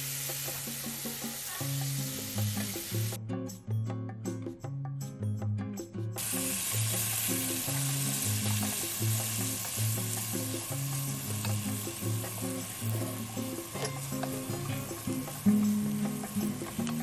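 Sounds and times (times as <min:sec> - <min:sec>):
onions sizzling in oil: 0:00.0 - 0:03.2, 0:06.2 - 0:17.0
background music with bass line: 0:00.1 - 0:17.0.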